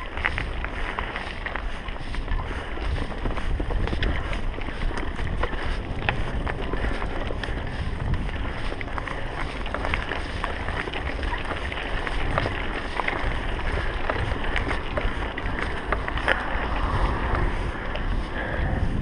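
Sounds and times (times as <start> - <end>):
bike clicks and rattles: 0.0 - 19.0
wind rumbling on microphone: 0.0 - 19.0.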